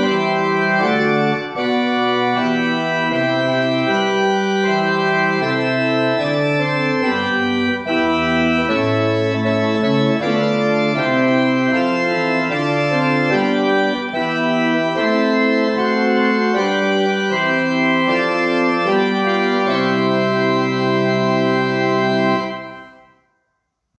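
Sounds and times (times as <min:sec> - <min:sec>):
church organ playing hymn: 0:00.0 - 0:23.3.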